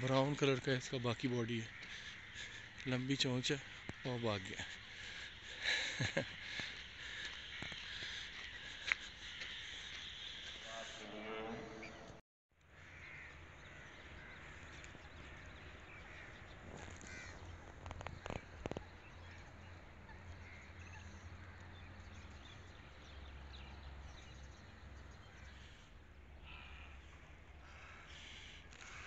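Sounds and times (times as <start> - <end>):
faint birds calling: 0.0 - 12.2, 12.8 - 29.0.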